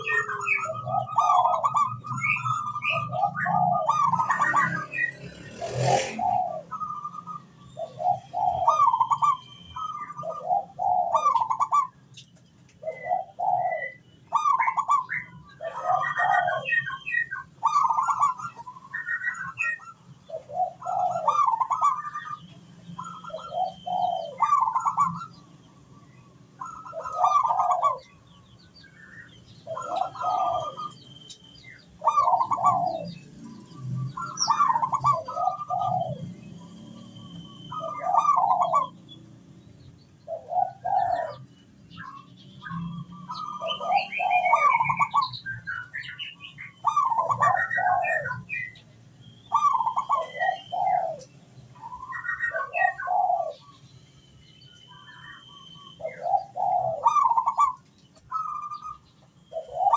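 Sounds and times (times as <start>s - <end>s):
dove cooing: 0.0s - 12.2s, 12.8s - 39.5s, 40.2s - 53.8s, 54.9s - 59.9s.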